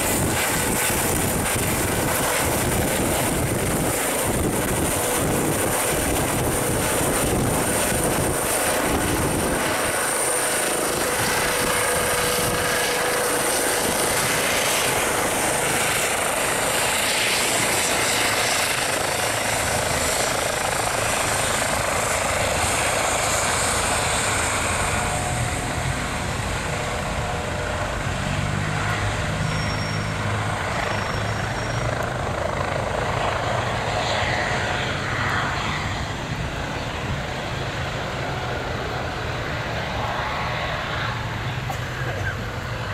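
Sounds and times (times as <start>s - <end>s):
helicopter engines whining: 0.0s - 42.9s
helicopter rotor rush: 0.0s - 42.9s.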